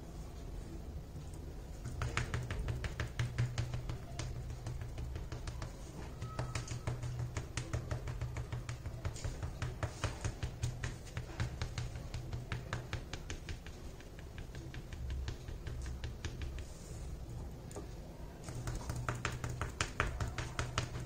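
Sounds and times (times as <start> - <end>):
sponge tapping on board: 1.8 - 16.8, 18.5 - 21.0.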